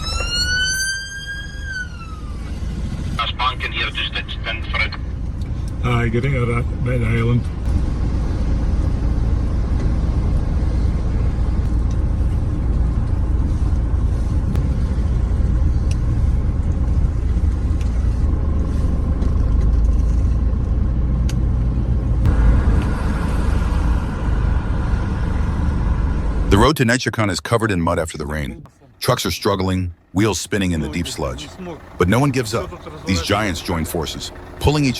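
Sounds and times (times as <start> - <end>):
heavy truck engine rumbling: 0.0 - 34.9.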